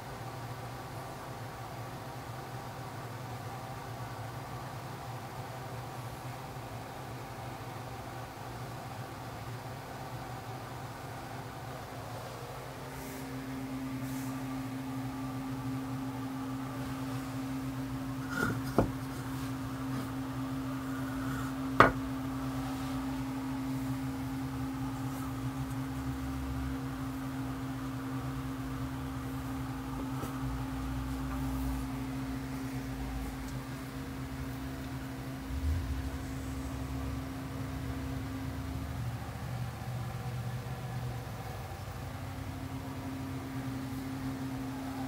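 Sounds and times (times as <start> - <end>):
machine hum: 3.2 - 45.0.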